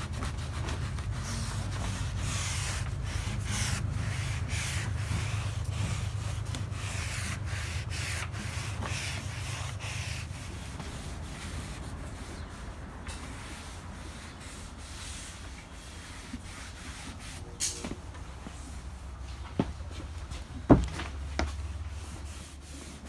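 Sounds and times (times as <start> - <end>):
sponge rubbing on wooden planks: 0.0 - 17.6, 21.2 - 23.0.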